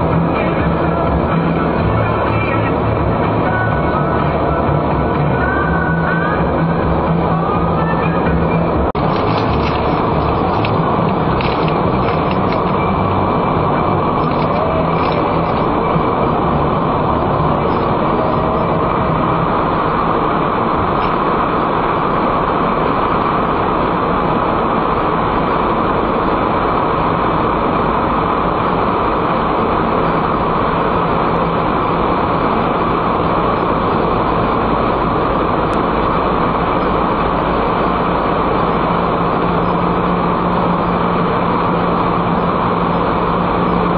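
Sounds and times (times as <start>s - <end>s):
car tyre and engine noise: 0.0s - 43.9s.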